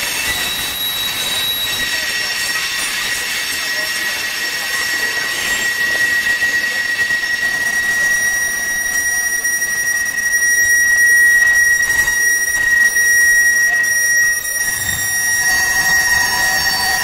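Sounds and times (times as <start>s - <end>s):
train wheels squealing on rail: 0.0s - 17.0s.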